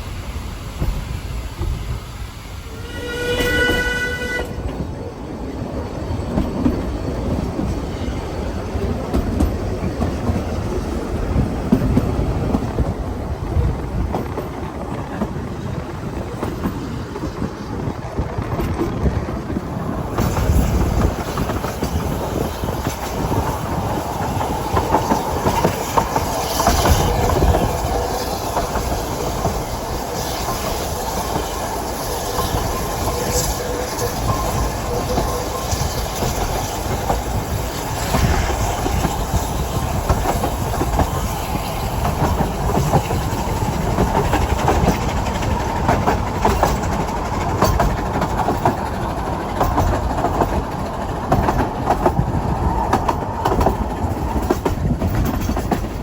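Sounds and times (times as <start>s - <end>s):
train wheels rumbling on rail: 0.0s - 56.0s
clickety-clack over rail joints: 0.2s - 56.0s.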